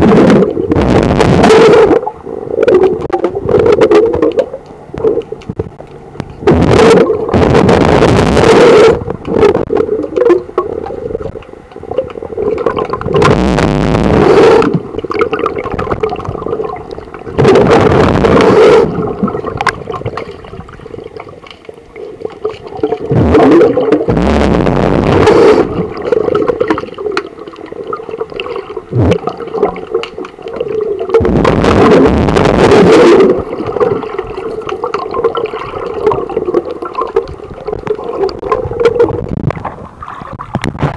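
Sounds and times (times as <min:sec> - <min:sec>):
muffled underwater wash: 0:00.0 - 0:40.9
rushing bubbling water: 0:00.0 - 0:40.9.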